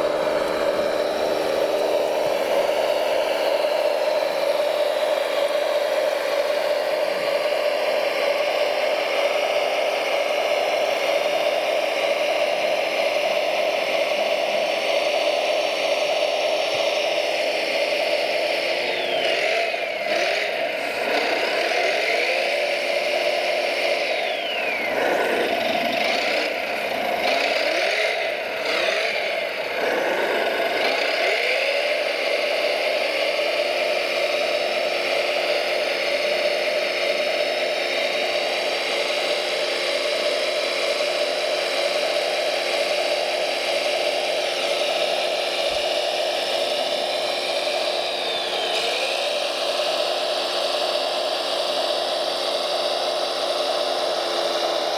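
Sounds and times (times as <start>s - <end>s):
model truck electric drive whining: 0.0s - 54.9s.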